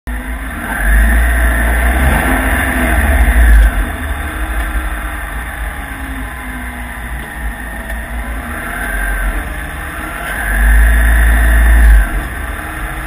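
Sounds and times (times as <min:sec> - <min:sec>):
car engine low rumble: 0:00.1 - 0:13.0.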